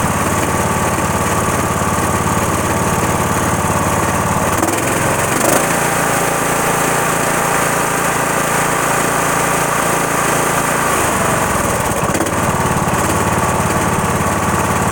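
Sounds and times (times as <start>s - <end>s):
engine running badly: 0.0s - 14.9s.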